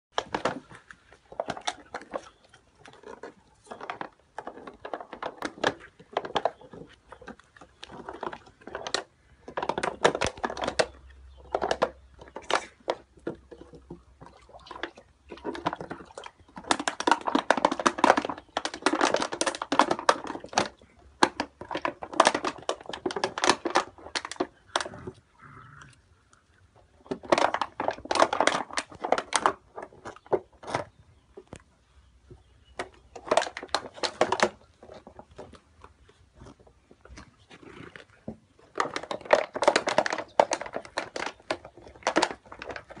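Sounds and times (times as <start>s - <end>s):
puppies smacking and clicking mouths: 0.1s - 25.3s, 25.9s - 43.0s.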